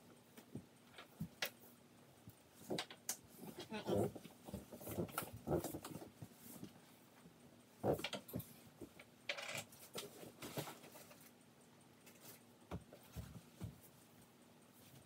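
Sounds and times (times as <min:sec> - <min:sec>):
ceiling fan motor hum: 0:00.0 - 0:15.0
light clicks and ticks: 0:00.1 - 0:15.0.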